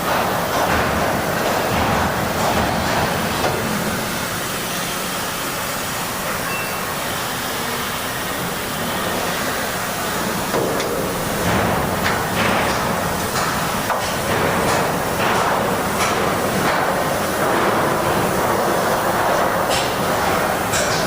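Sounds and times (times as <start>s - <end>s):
workshop machinery hum and hiss: 0.0s - 21.0s.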